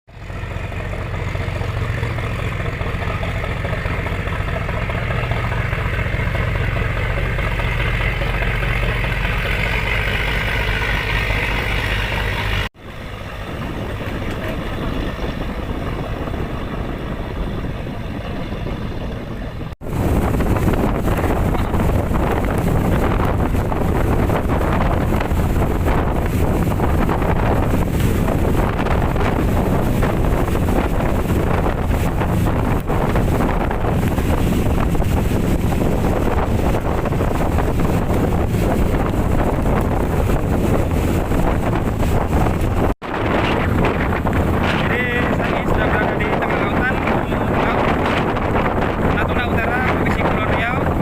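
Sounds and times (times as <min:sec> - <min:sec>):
boat engine running: 0:00.1 - 0:51.0
wind buffeting microphone: 0:00.1 - 0:51.0.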